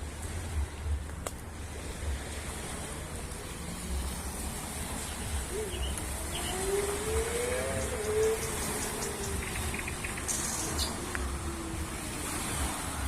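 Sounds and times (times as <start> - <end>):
faint gliding tones: 0.0 - 13.0
outdoor rush of noise: 0.0 - 13.0
wind buffeting microphone: 0.0 - 13.0.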